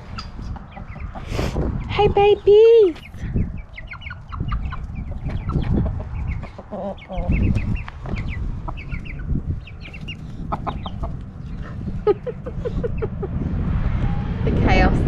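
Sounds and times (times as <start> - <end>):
chickens clucking: 0.0 - 13.6
low rumble: 0.0 - 15.0.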